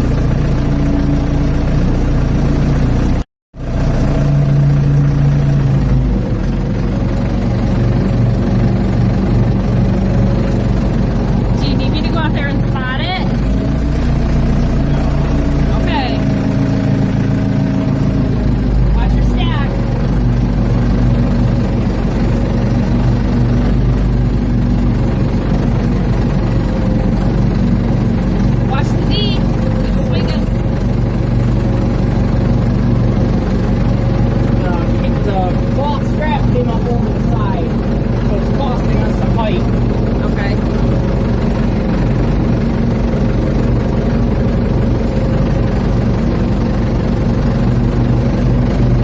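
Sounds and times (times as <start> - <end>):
backhoe engine running: 0.0 - 49.0.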